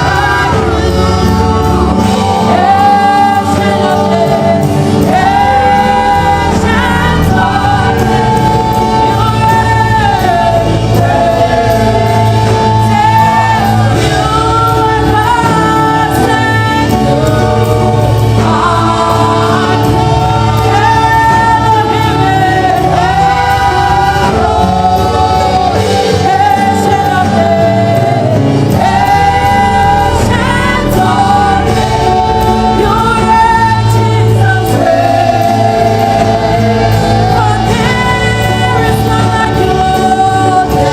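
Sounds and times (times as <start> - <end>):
band accompaniment: 0.0 - 40.9
bass line: 0.0 - 40.9
gospel choir singing: 0.0 - 40.9.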